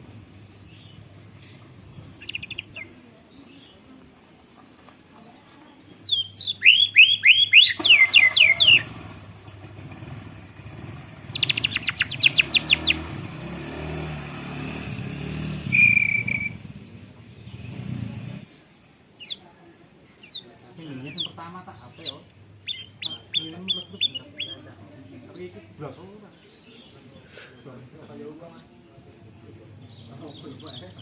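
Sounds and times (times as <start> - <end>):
low engine rumble: 0.0 - 31.0
bird singing and trilling: 0.4 - 9.3, 11.2 - 14.2, 15.2 - 17.8, 18.4 - 31.0.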